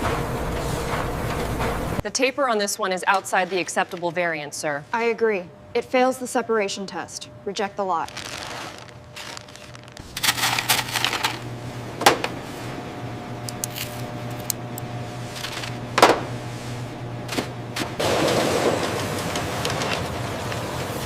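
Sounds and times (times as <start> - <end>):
factory machinery humming: 0.0 - 21.0.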